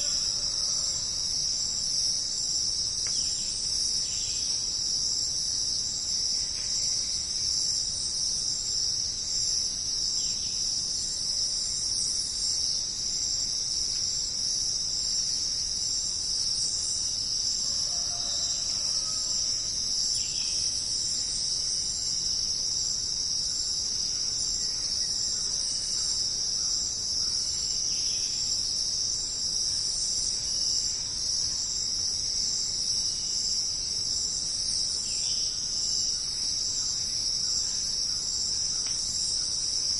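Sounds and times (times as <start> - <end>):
insect chorus shrilling: 0.0 - 39.9.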